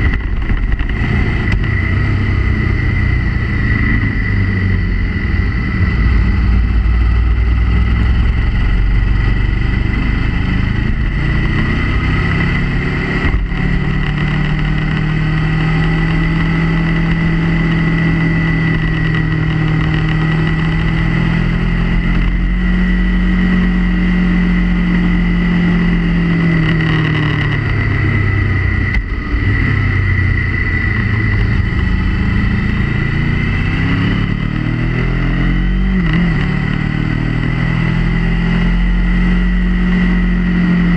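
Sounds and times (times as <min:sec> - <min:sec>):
wind rumble on microphone: 0:00.0 - 0:38.4
motorcycle engine revving: 0:00.0 - 0:40.9
steady high whine: 0:00.0 - 0:40.9.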